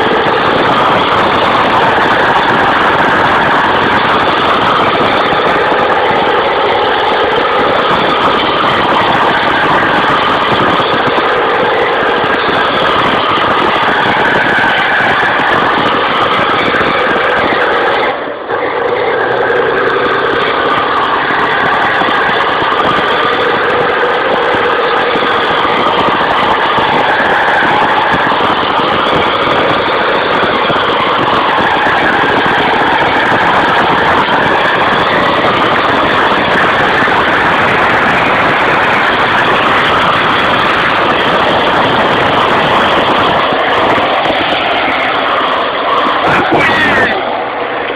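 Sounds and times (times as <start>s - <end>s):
vehicle engine running loudly: 0.0s - 47.9s.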